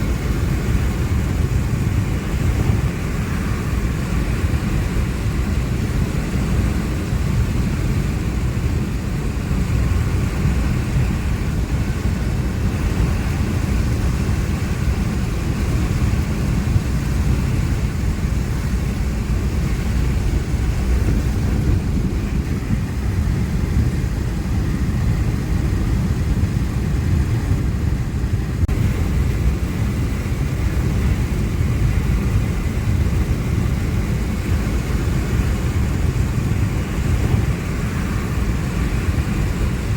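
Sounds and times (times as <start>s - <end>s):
road noise: 0.0s - 39.9s
vehicle rumbling along road: 0.0s - 39.9s
wind noise: 0.0s - 39.9s.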